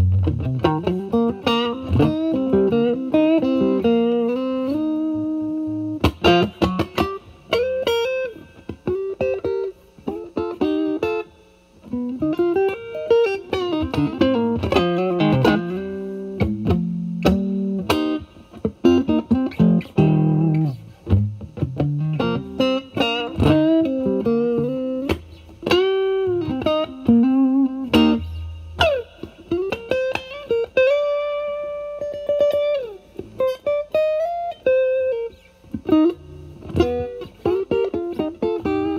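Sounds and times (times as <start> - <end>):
overdriven electric guitar lead: 0.0 - 38.9.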